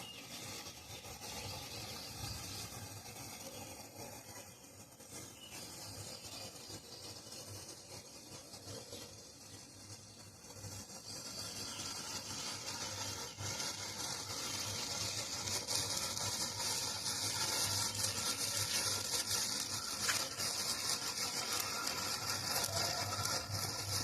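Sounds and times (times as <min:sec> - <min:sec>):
matches igniting with hissing fizz: 0:00.0 - 0:24.0.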